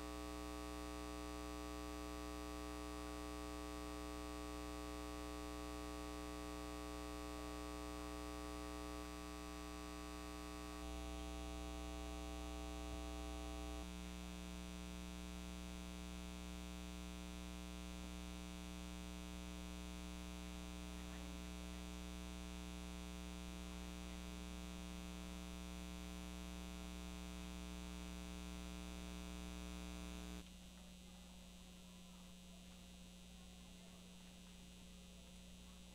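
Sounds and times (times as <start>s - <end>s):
electrical hum and buzz: 0.0s - 31.0s.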